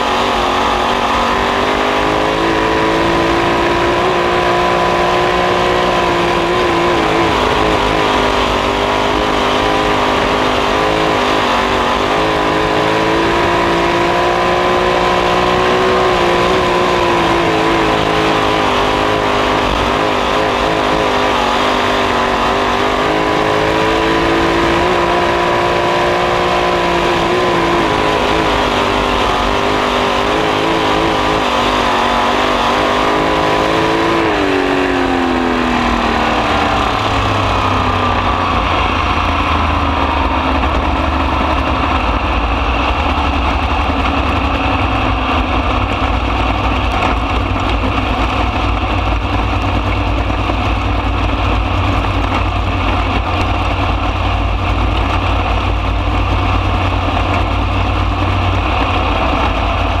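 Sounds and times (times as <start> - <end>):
race car engine at speed: 0.0 - 60.0.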